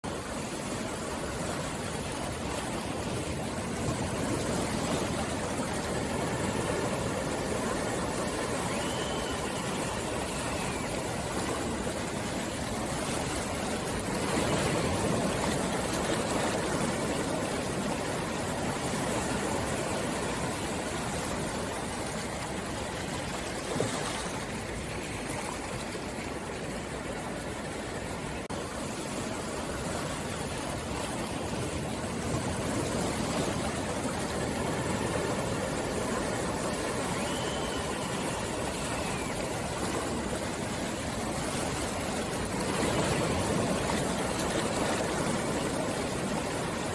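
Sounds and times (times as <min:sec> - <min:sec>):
waves washing on shore: 0:00.0 - 0:46.9.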